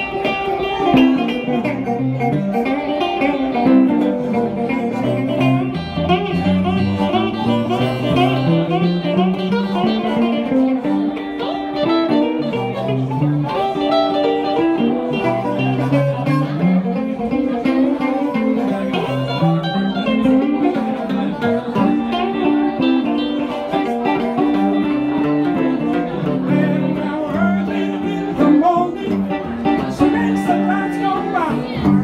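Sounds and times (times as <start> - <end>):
amplified harmonica: 0.0 - 32.0
electric blues guitars: 0.0 - 32.0.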